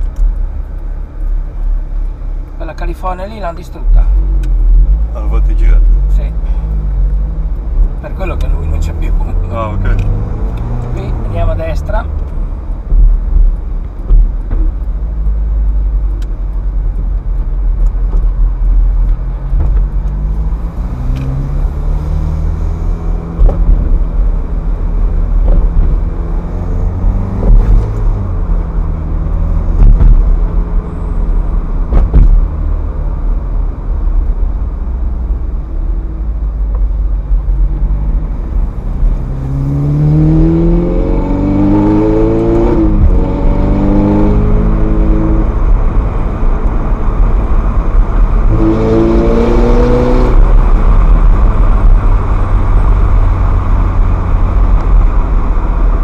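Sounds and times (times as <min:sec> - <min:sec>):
low road rumble: 0:00.0 - 0:56.0
sports car engine revving: 0:03.0 - 0:35.4, 0:36.0 - 0:56.0.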